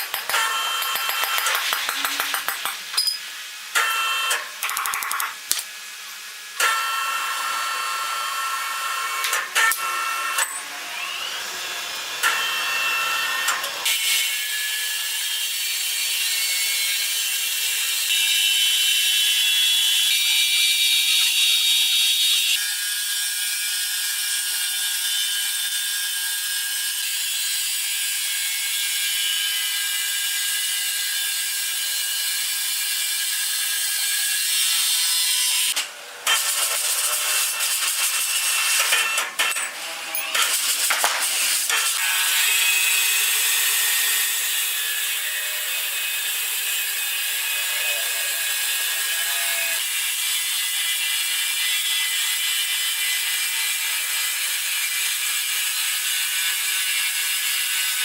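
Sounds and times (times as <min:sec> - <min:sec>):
sawmill machine whirring: 0:00.0 - 0:58.0.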